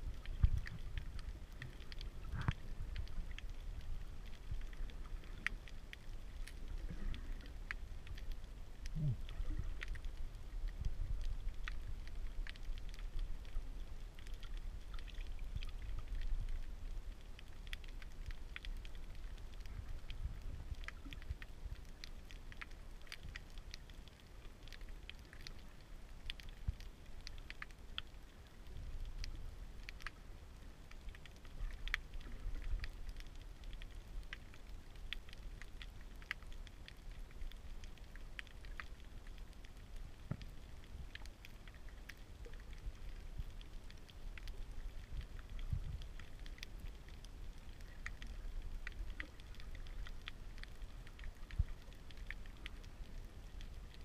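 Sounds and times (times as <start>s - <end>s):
sharp crackling clicks: 0.0s - 30.2s, 30.8s - 54.0s
underwater rumble of moving water: 0.0s - 54.0s.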